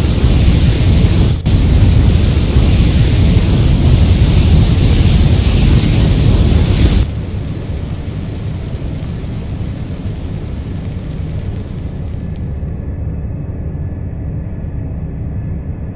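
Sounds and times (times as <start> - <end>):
flamethrower rushing blast: 0.0 - 12.8.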